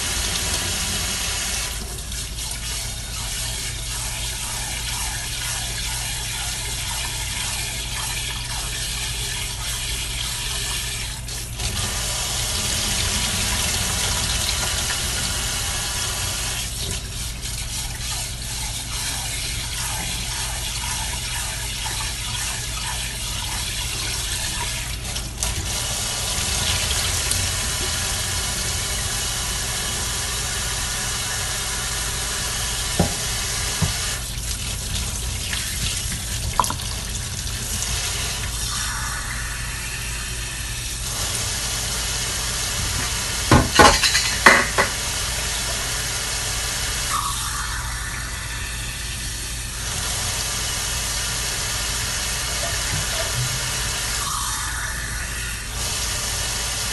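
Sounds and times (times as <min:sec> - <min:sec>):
tap water running into sink: 0:00.0 - 0:56.9.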